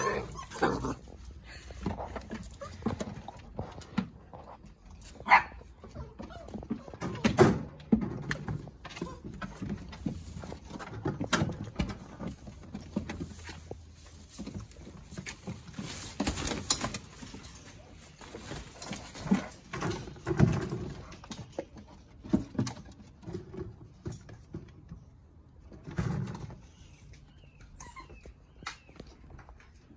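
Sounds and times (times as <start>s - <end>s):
play tunnel rustling: 0.0s - 27.0s
puppies scuffling: 0.0s - 29.9s.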